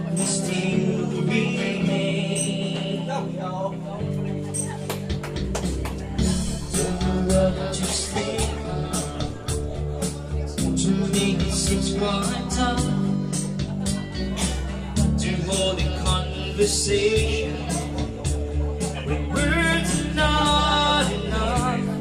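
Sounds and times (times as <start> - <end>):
person singing: 0.0 - 4.8, 6.1 - 22.0
music with steady beat and bass: 0.0 - 22.0.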